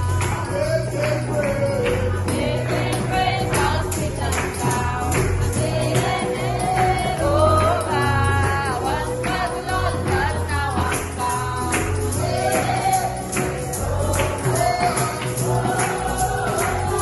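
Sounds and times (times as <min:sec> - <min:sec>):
bass accompaniment: 0:00.0 - 0:17.0
choir singing gospel: 0:00.0 - 0:17.0
tambourine: 0:00.0 - 0:17.0.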